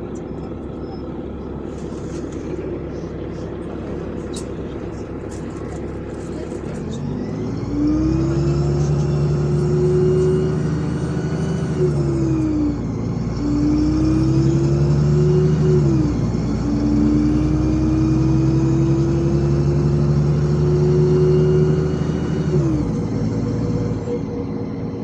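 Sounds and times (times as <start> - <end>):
bus engine accelerating: 0.0 - 25.0.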